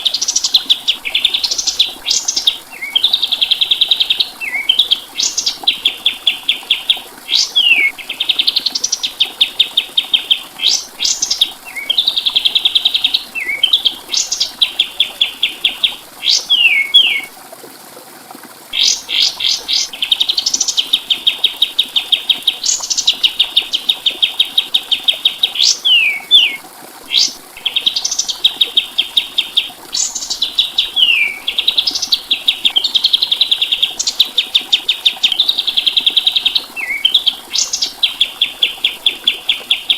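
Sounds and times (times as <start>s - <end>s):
songbird singing: 0.0s - 17.3s, 18.8s - 39.9s.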